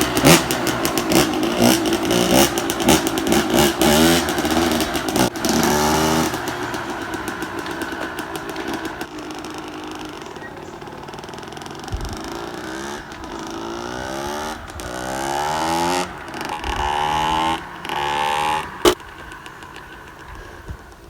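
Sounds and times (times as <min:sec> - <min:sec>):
sharp crack: 0:00.0 - 0:21.0
two-stroke engine accelerating: 0:00.0 - 0:21.0.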